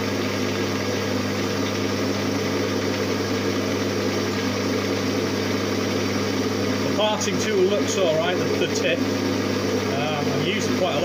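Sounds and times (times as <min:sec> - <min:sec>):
metal lathe motor hum: 0:00.0 - 0:11.0.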